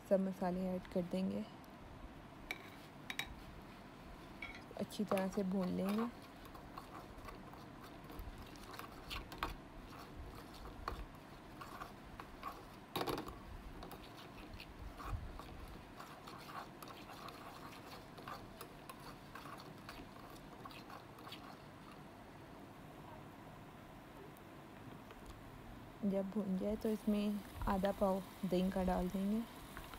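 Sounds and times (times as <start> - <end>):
masala frying in oil: 2.5 - 22.6, 26.0 - 29.9.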